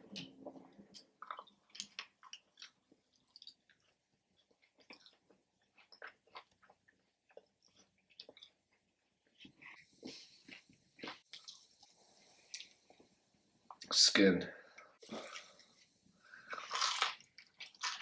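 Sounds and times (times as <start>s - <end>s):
chewing crunchy food: 0.1s - 13.1s, 15.0s - 18.0s.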